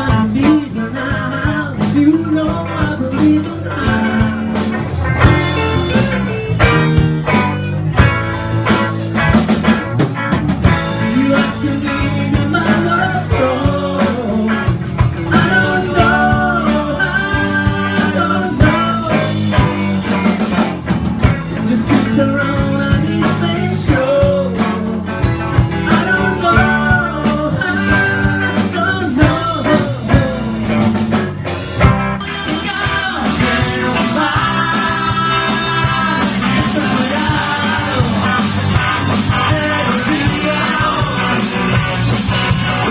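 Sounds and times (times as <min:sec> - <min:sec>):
live rock band playing: 0:00.0 - 0:42.9
wavy melodic lead line: 0:00.0 - 0:42.9.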